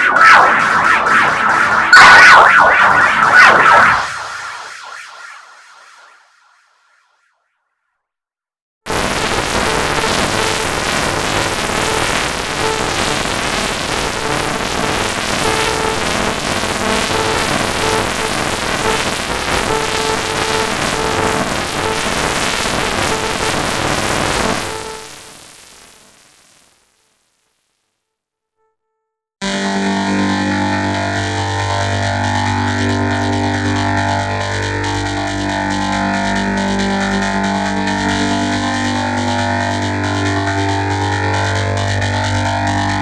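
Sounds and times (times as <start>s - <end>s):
distorted electronic jingle: 0.0s - 4.7s, 8.9s - 25.3s, 29.4s - 43.0s.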